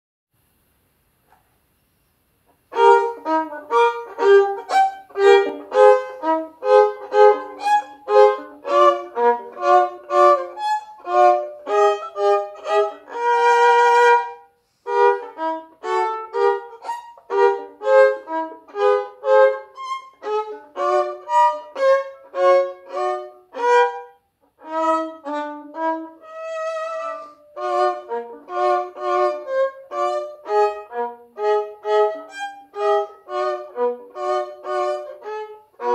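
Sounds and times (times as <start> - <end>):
solo violin playing: 2.7 - 35.9.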